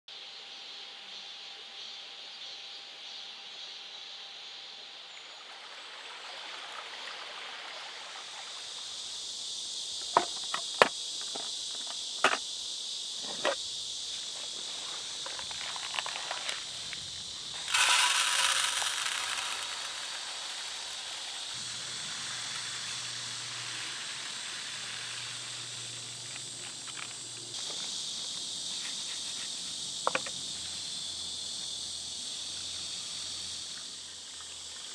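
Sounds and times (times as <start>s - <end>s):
high insect chorus: 0.1s - 34.9s.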